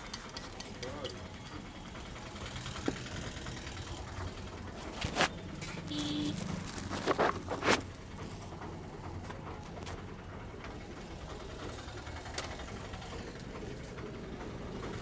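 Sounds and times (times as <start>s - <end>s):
low traffic rumble: 0.6s - 15.0s.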